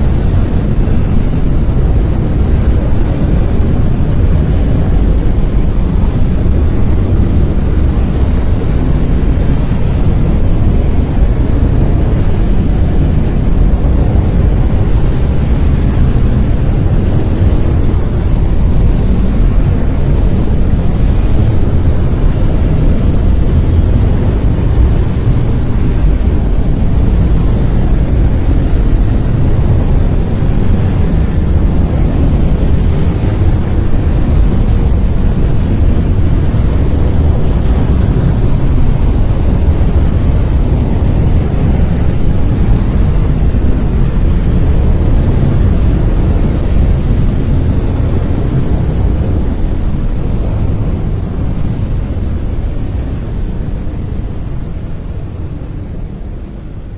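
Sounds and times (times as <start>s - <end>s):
deep rumbling brown noise: 0.0s - 56.9s.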